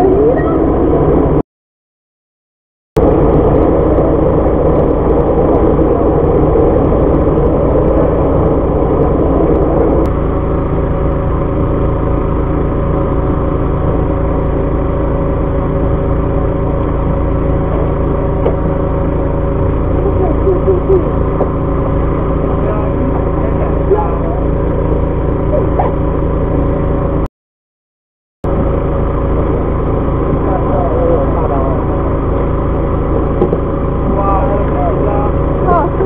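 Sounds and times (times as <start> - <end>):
boat engine droning: 0.0 - 1.4, 3.0 - 27.3, 28.4 - 36.0.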